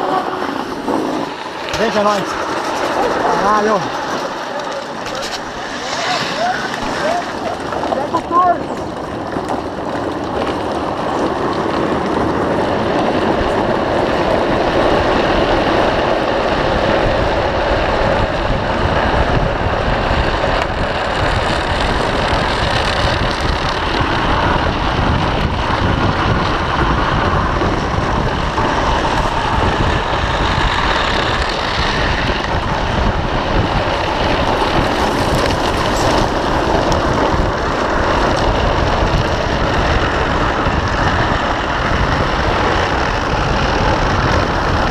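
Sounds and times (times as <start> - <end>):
wheels scraping on asphalt: 0.0 - 44.9.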